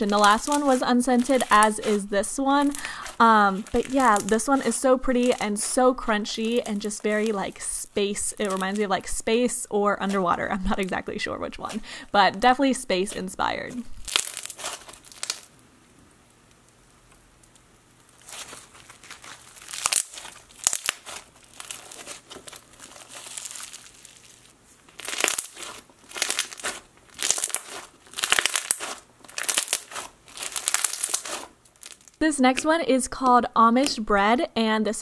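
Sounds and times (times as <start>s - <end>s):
foam bead slime crunching: 0.0s - 15.6s, 16.2s - 32.7s.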